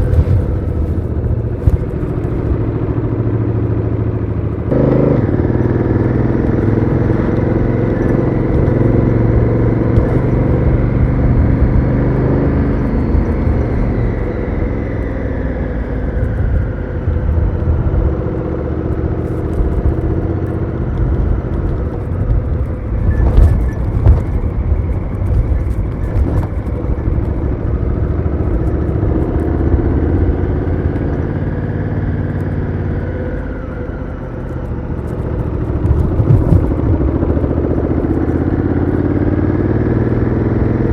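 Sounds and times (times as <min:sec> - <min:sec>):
low wind rumble: 0:00.0 - 0:40.9
motorcycle engine revving: 0:00.0 - 0:40.9.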